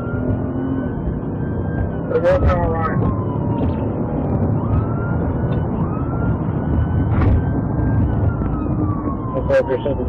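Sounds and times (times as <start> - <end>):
engine and road rumble: 0.0 - 10.0
police siren wailing: 0.0 - 10.0.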